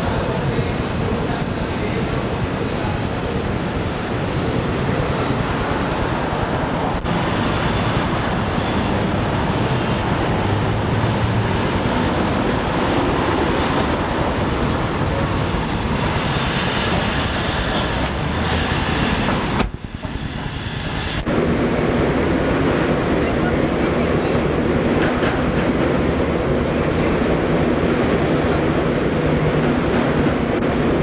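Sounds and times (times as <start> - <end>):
city street traffic: 0.0 - 31.0.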